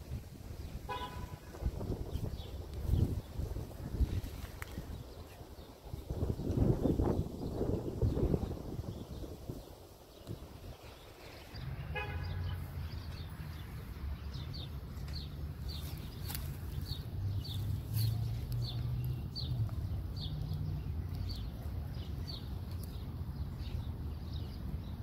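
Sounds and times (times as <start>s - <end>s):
street traffic hum: 0.0s - 25.0s.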